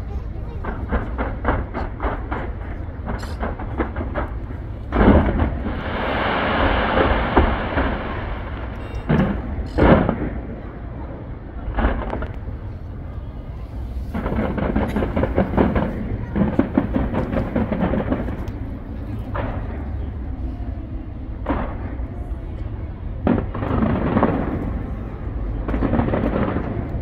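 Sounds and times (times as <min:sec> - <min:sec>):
fireworks crackling: 0:00.0 - 0:27.0
fireworks booms: 0:00.4 - 0:27.0.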